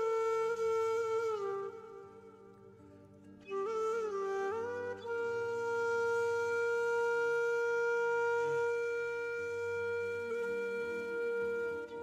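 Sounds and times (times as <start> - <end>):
flute-like long note: 0.0 - 12.0.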